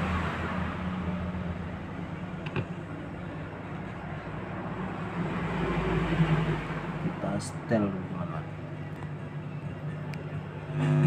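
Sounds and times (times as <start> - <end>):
speaker low hum over hiss: 0.6 - 11.0.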